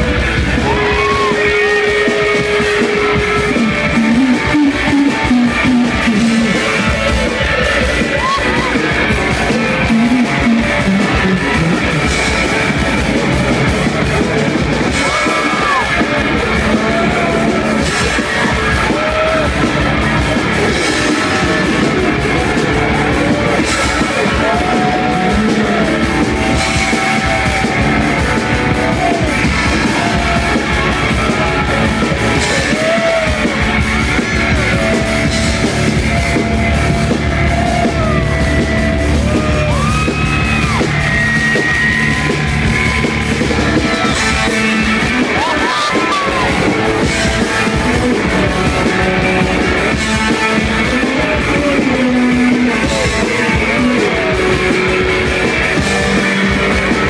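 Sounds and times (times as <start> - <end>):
bass guitar: 0.0 - 57.0
distorted electric guitars: 0.0 - 57.0
drums with cymbal crashes: 0.0 - 57.0.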